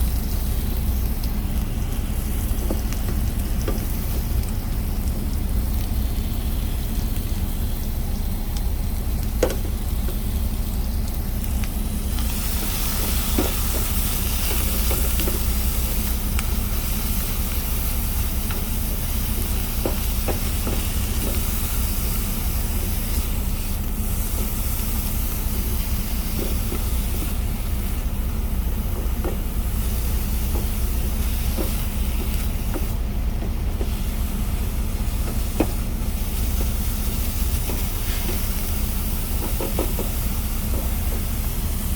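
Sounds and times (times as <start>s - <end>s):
vegetables sizzling in a pan: 0.0s - 41.9s.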